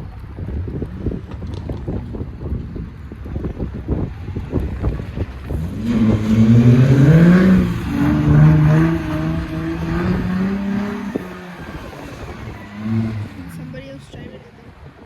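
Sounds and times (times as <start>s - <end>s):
car engine revving: 0.0s - 14.5s.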